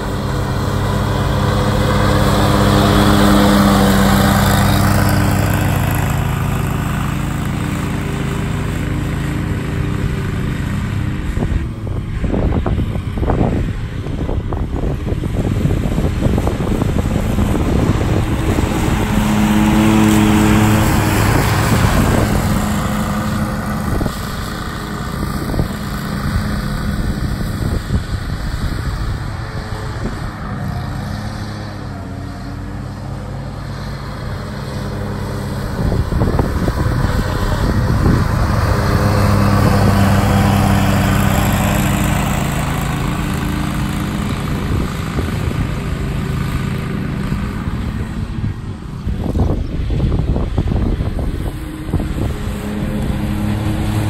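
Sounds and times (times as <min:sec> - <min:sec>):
riding mower engine humming: 0:00.0 - 0:54.0.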